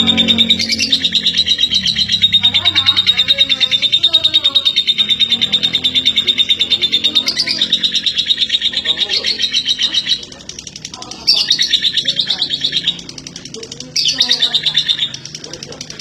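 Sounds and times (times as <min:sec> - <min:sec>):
lovebird chattering trill: 0:00.0 - 0:16.0.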